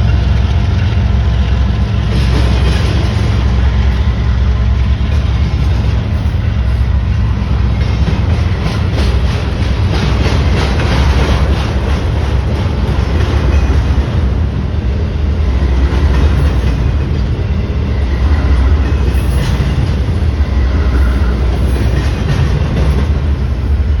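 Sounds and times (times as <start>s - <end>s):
wheels clattering over rail joints: 0.0s - 3.7s, 4.8s - 24.0s
freight train rumbling past: 0.0s - 24.0s.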